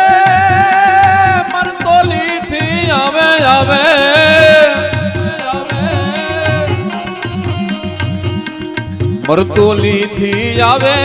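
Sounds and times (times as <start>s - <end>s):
drum beat: 0.0s - 11.0s
folk instruments: 0.0s - 11.0s
person singing: 0.0s - 11.0s.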